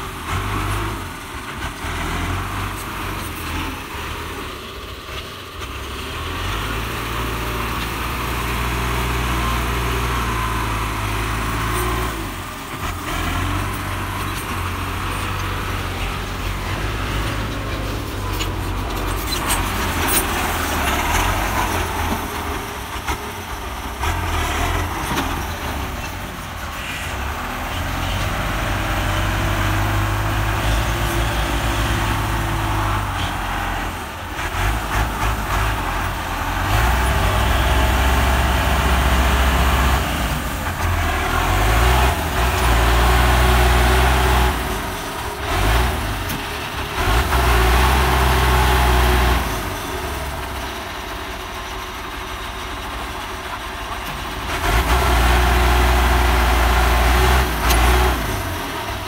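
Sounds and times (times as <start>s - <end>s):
tractor diesel engines under load: 0.0s - 59.0s.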